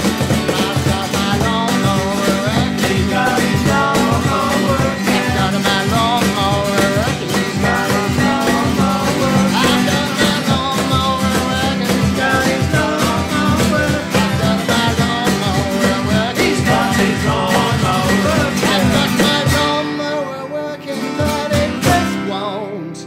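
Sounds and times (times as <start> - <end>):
cajon beat: 0.0 - 20.3, 20.9 - 22.5
acoustic guitars strumming: 0.0 - 23.0.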